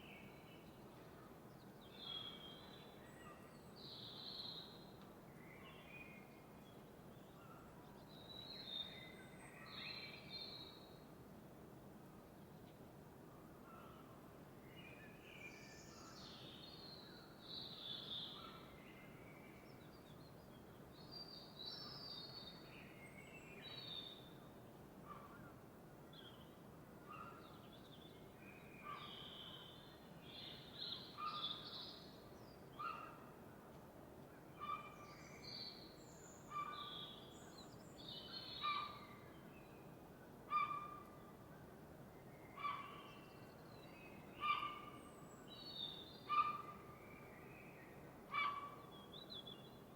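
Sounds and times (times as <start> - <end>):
soft steady hiss: 0.0 - 49.9.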